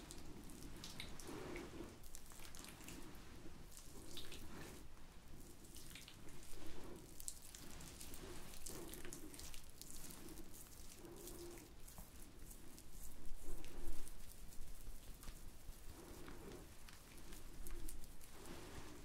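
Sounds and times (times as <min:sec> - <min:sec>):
oily hands rubbing together: 0:02.7 - 0:19.0.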